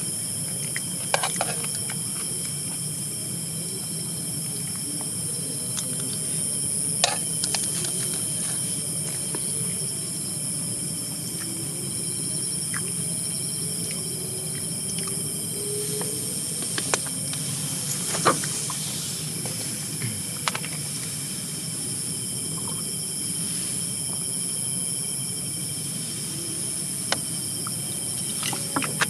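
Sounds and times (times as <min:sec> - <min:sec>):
insects buzzing shrilly: 0:00.0 - 0:29.0.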